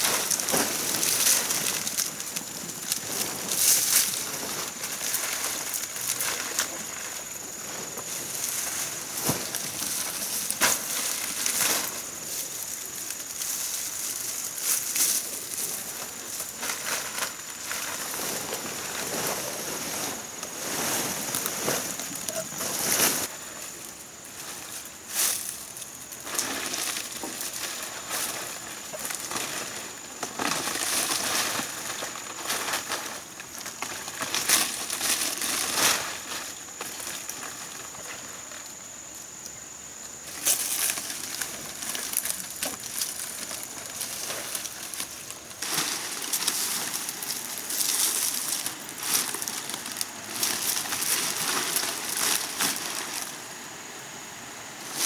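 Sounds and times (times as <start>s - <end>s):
dry material rustling and crunching: 0.0s - 38.9s, 40.1s - 53.8s.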